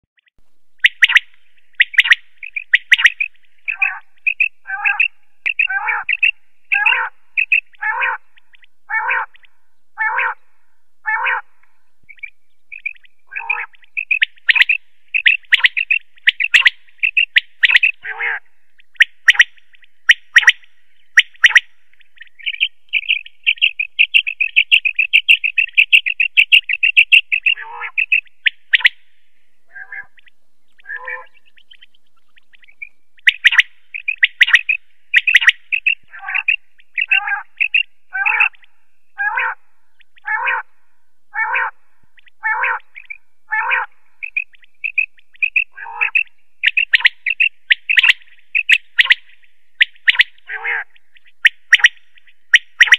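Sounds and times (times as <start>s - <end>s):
quail calling: 0.8s - 10.4s, 11.0s - 11.5s, 12.1s - 29.0s, 29.7s - 40.7s, 41.3s - 52.9s.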